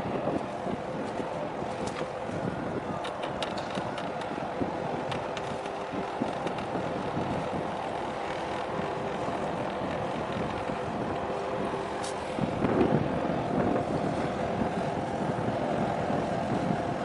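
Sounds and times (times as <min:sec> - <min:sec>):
faint steady tones: 0:00.0 - 0:17.0
ship engine hum and rumble: 0:00.0 - 0:17.0
wind buffeting microphone: 0:00.0 - 0:17.0.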